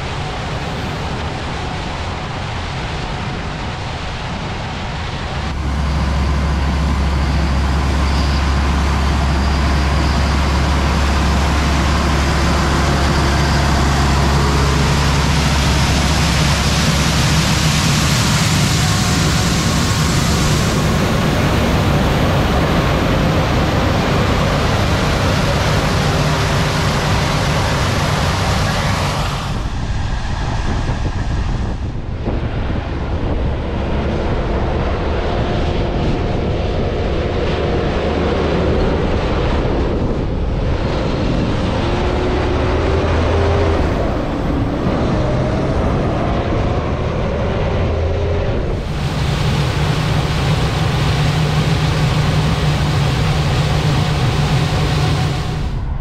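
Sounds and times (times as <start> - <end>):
combine harvester running: 0.0 - 56.0
truck accelerating past: 4.8 - 56.0.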